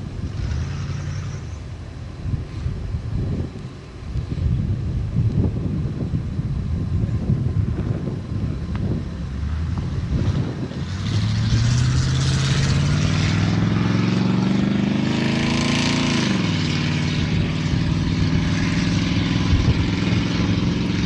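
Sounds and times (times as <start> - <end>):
vehicle engine accelerating: 0.0 - 3.6, 7.1 - 21.0
road and wind noise: 0.0 - 21.0.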